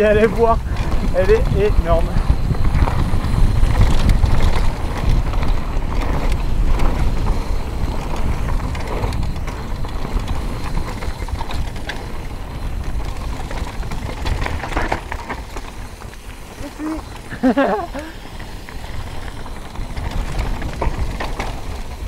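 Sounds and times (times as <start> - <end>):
bike clicks and rattles: 0.0 - 22.0
tyre and wind rumble: 0.0 - 22.0.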